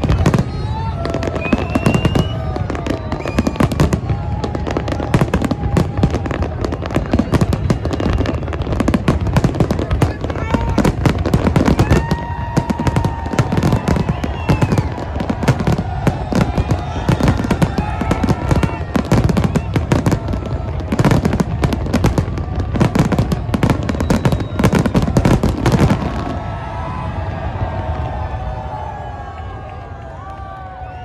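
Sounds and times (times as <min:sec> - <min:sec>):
fireworks bangs and crackling: 0:00.0 - 0:31.0
whistling fireworks: 0:00.0 - 0:31.0.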